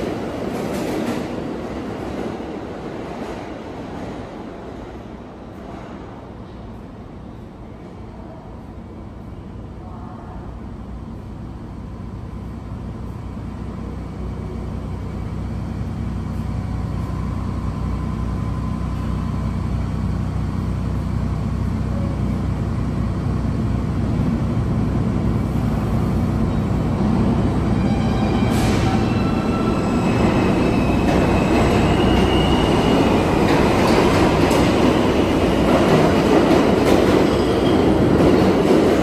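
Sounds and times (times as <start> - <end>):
subway train rumbling: 0.0 - 39.0.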